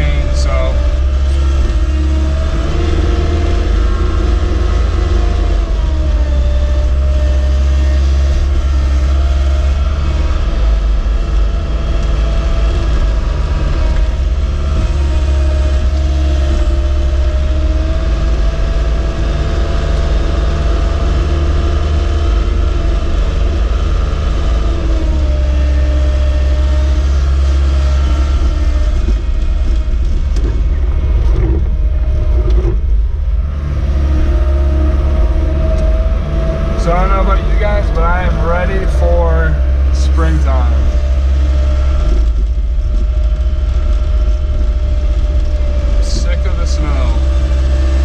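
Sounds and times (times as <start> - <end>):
diesel engine rumbling: 0.0 - 48.0.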